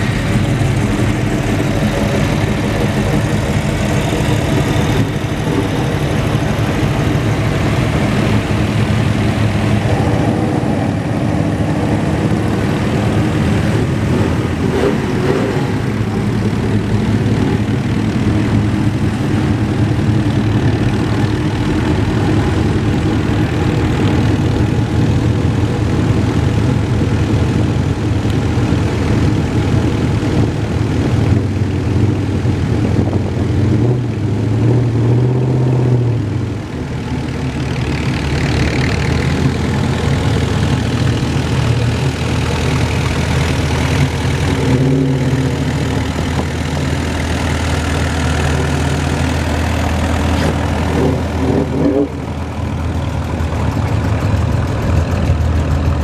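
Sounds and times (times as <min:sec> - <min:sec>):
car engines rolling past: 0:00.0 - 0:56.0
tractor engine running: 0:00.0 - 0:56.0.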